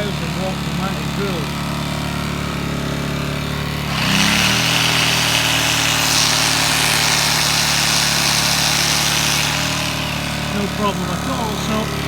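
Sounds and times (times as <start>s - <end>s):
electric drill running: 0.0s - 12.0s
portable generator running: 0.0s - 12.0s.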